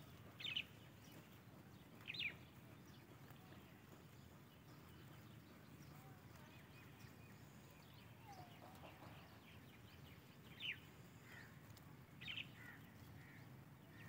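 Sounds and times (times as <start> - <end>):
faint birds chirping: 0.0 - 14.0
low steady background noise: 0.0 - 14.0.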